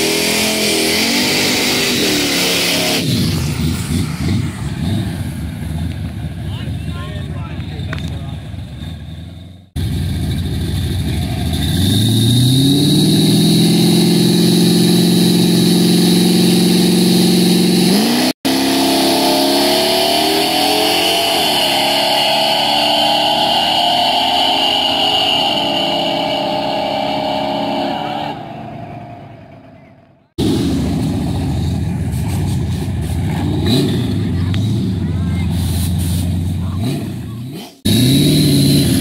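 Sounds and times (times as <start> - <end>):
pickup truck engines revving: 0.0 - 39.0.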